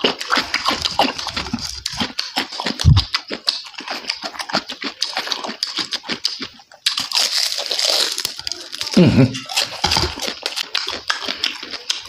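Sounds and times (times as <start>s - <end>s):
crunchy chewing with wet smacking: 0.0s - 12.0s.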